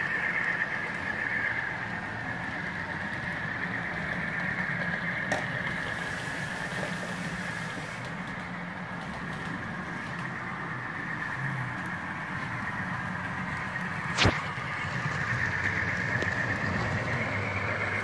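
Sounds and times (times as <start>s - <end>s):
toy locomotive engine rumble: 0.0s - 18.0s.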